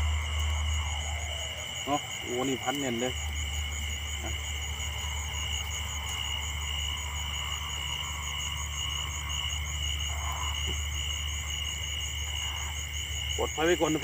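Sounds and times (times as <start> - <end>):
low steady rumble: 0.0 - 12.7
insects trilling: 0.0 - 14.0.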